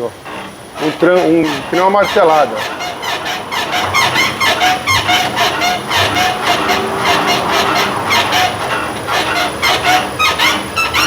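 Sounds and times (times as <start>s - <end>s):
suspension creaking and clunking: 0.0s - 11.0s
wheel bearing knocking: 0.0s - 11.0s.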